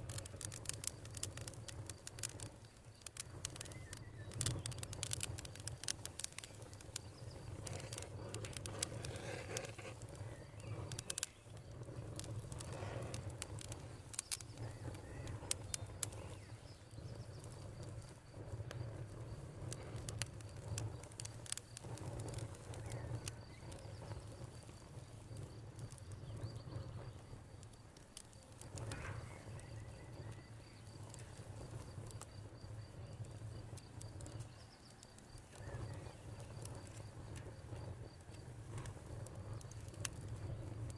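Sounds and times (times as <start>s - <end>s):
campfire crackling and popping: 0.0s - 40.9s
crickets chirring: 0.0s - 40.9s.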